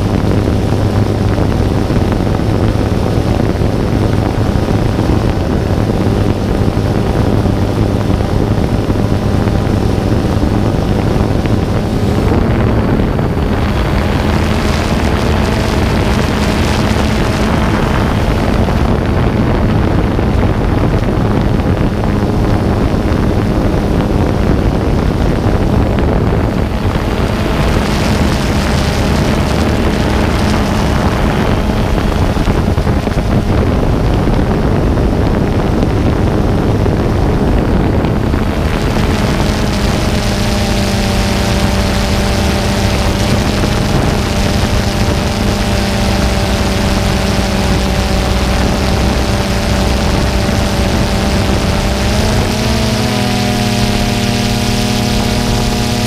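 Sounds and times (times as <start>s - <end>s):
drone propellers humming: 0.0s - 56.0s
wind rushing over microphone: 0.0s - 56.0s.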